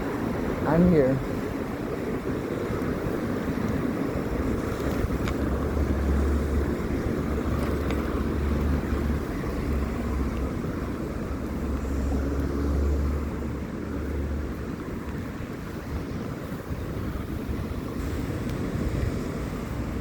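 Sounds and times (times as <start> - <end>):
street and road noise hiss: 0.0 - 20.0
wind rumbling on microphone: 0.0 - 20.0.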